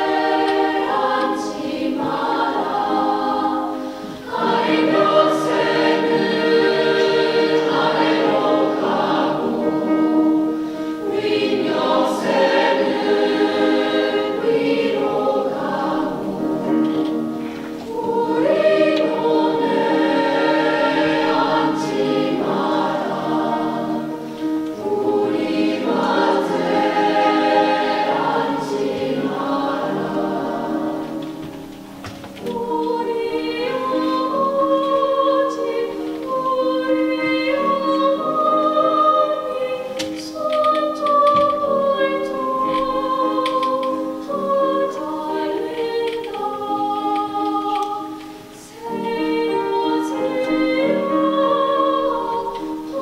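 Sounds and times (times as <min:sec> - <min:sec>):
youth choir singing: 0:00.0 - 0:53.0.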